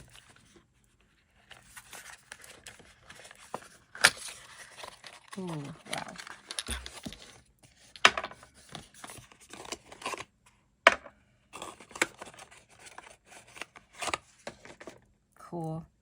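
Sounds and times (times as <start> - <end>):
paper packaging rustling: 0.0 - 10.3, 11.5 - 15.0.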